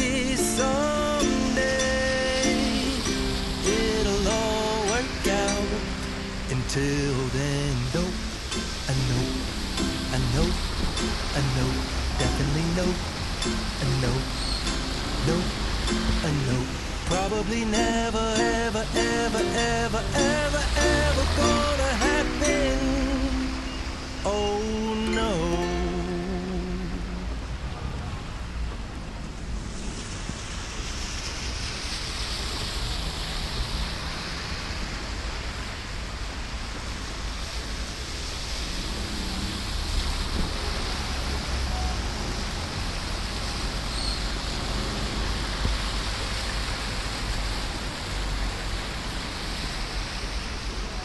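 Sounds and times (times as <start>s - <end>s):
heavy rain pouring: 0.0s - 51.0s.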